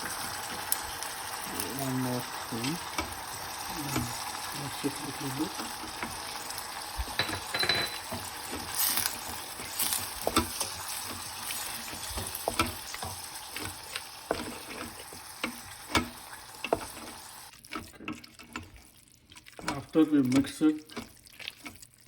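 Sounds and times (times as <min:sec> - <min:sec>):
ghee sizzling in a pan: 0:00.0 - 0:22.0
spoon stirring and clicking on pan: 0:02.3 - 0:22.0.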